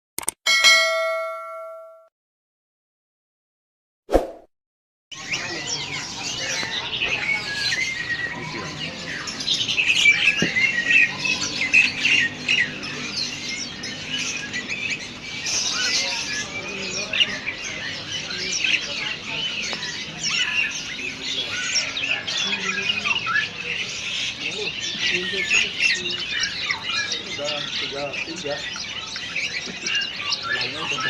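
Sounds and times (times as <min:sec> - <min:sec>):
songbirds chirping and trilling: 0:05.1 - 0:31.0.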